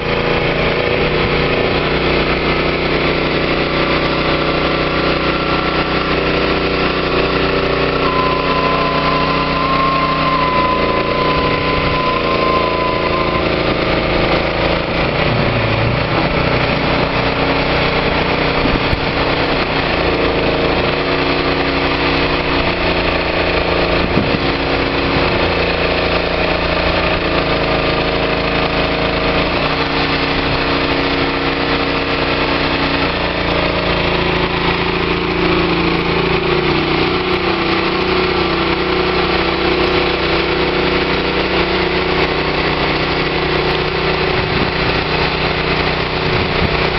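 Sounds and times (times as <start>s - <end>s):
small engine running: 0.0s - 46.9s
tractor engine running: 0.0s - 46.9s.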